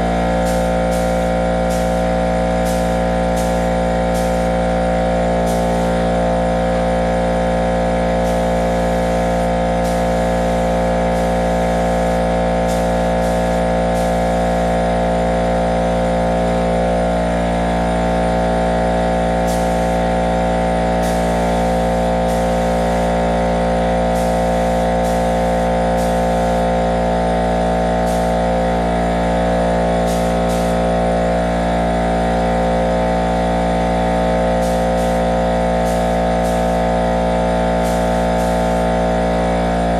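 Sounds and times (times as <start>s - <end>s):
box fan motor hum: 0.0s - 39.9s.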